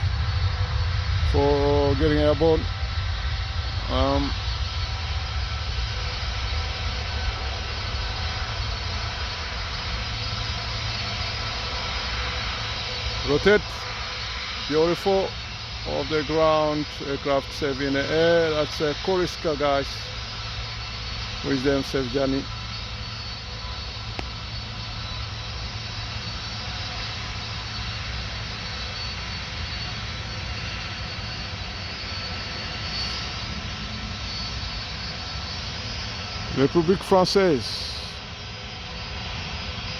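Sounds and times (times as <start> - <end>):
faint steady whine: 0.0 - 39.9
jet engines at takeoff thrust: 0.0 - 39.9.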